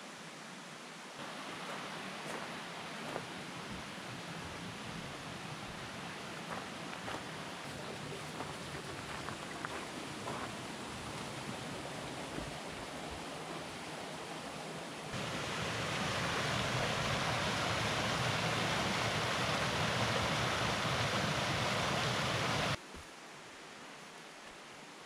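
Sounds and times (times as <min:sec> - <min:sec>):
rushing water: 0:00.0 - 0:25.0
stream running over rocks: 0:00.4 - 0:23.3.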